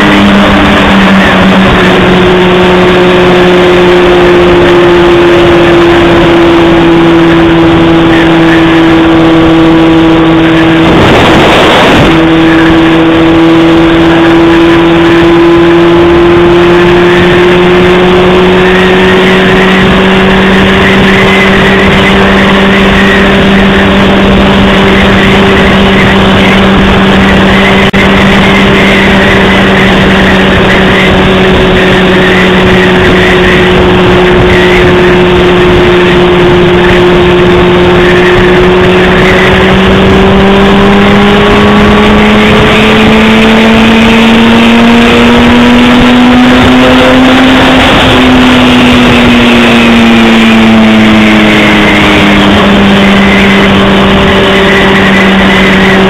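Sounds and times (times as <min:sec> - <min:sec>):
motorcycle engine cruising: 0:00.0 - 0:56.0
wind noise rushing: 0:00.0 - 0:56.0.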